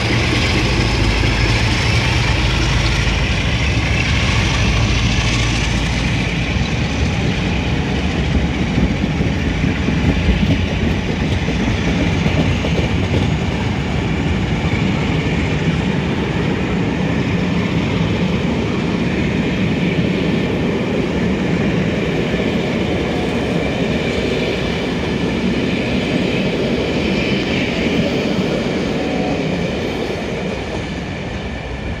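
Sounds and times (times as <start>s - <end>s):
train wheels clicking over rail joints: 0.0s - 28.9s.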